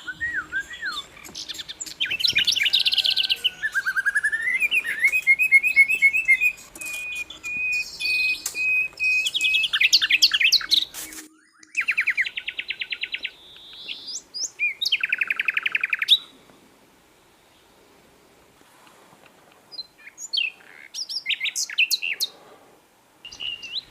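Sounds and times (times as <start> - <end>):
bird chirping and trilling: 0.0 - 16.3, 19.7 - 22.4, 23.2 - 23.9.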